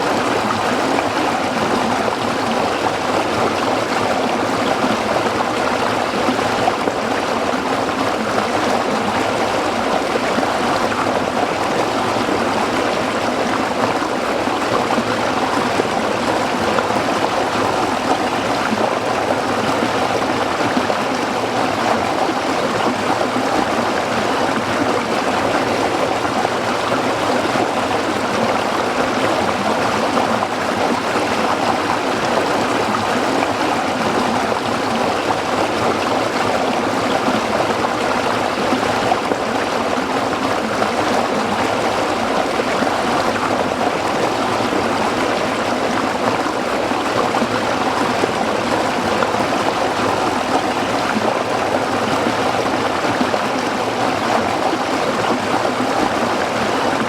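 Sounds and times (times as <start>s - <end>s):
stream babbling over rocks: 0.0s - 57.0s.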